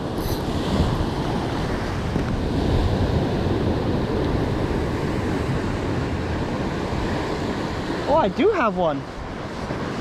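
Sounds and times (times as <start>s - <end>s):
ocean surf breaking on rocks: 0.0s - 10.0s
wind buffeting microphone: 0.0s - 10.0s.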